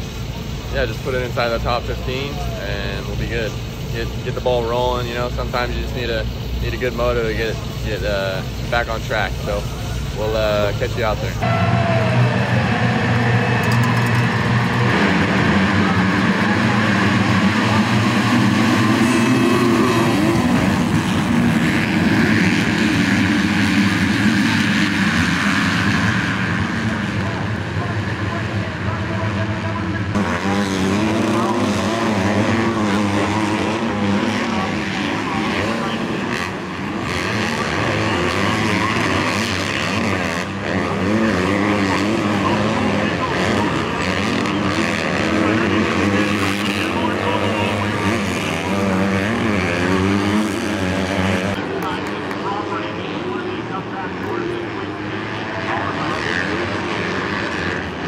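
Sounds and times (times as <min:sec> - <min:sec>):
motocross bikes revving and accelerating: 0:00.0 - 0:58.0.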